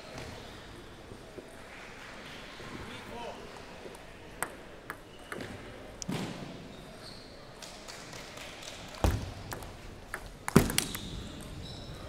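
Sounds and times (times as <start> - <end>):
faint background chatter: 0.0 - 12.0.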